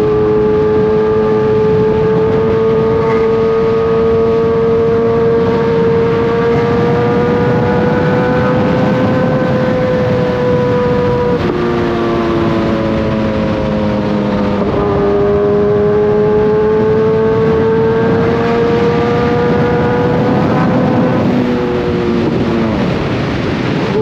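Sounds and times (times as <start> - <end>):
motorcycle engine running: 0.0 - 24.0
steady rushing noise: 0.0 - 24.0.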